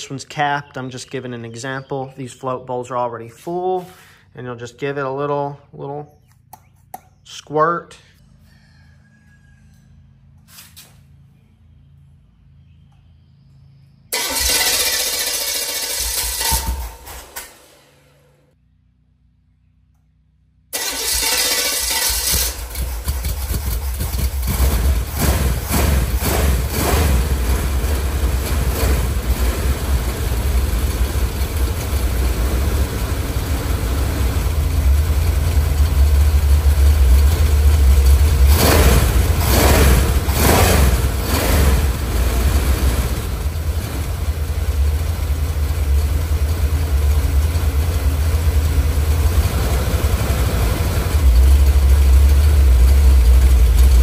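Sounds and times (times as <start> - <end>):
car engine idling and revving: 10.0 - 19.4, 20.0 - 54.0.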